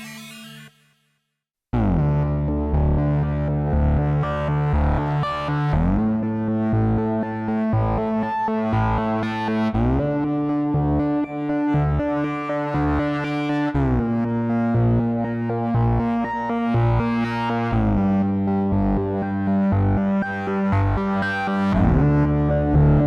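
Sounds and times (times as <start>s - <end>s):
low bass line: 1.8s - 23.0s
synthesizer playing held chords: 1.8s - 23.0s.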